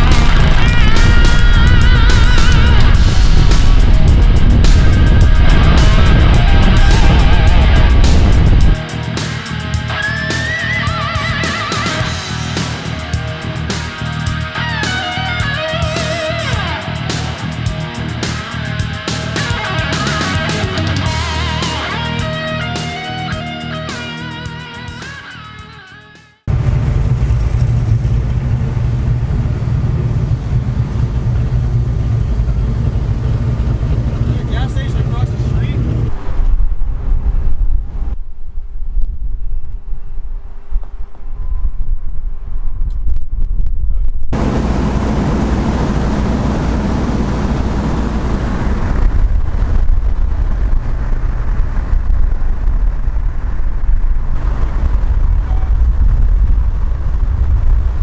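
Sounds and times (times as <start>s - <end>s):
car engine rumbling: 0.0s - 25.6s, 26.4s - 40.6s, 44.3s - 58.0s
road noise: 0.0s - 43.6s, 44.3s - 58.0s.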